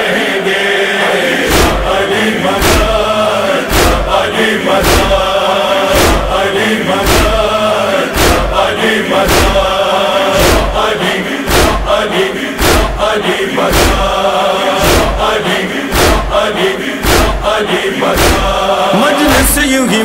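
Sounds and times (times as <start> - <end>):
chorus of voices chanting: 0.0 - 20.0
heavy drum beat: 1.5 - 19.9.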